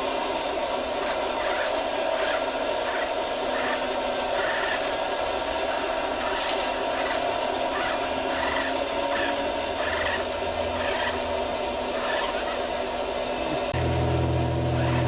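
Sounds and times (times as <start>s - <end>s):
model motor whine: 0.0s - 15.0s.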